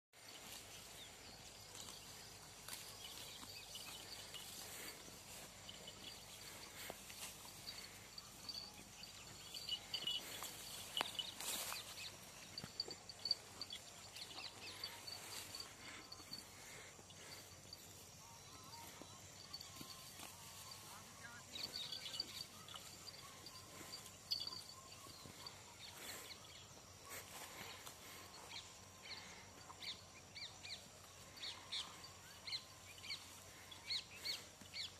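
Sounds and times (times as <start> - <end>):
insects chirping: 0.2 - 34.9.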